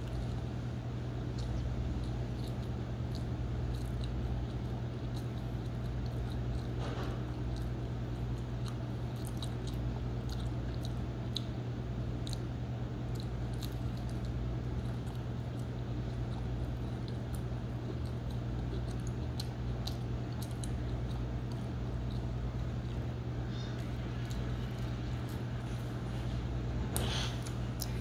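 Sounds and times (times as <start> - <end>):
chewing and biting pizza: 0.0 - 28.0
steady low hum: 0.0 - 28.0.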